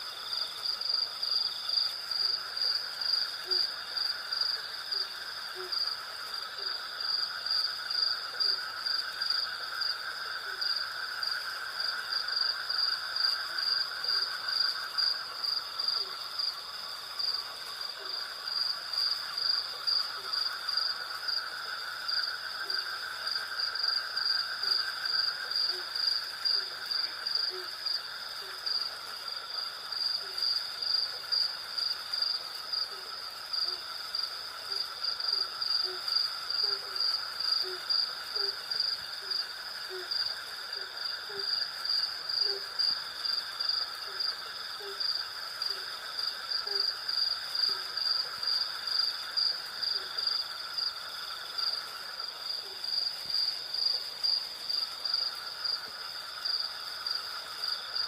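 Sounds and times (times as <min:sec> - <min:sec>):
high pulsing insect trill: 0:00.0 - 0:58.0.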